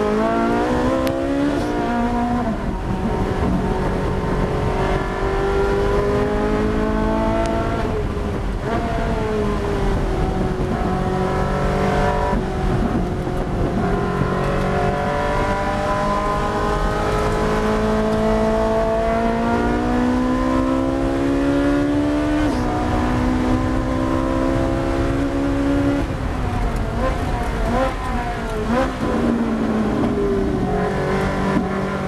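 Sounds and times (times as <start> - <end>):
race car engine accelerating: 0.0 - 32.0.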